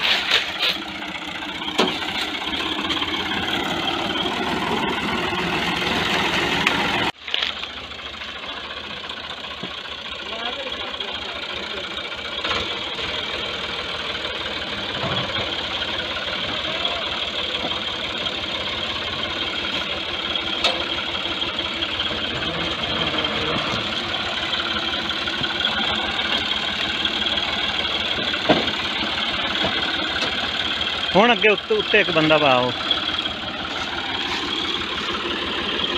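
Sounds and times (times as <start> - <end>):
tractor diesel engine under load: 0.0 - 35.9.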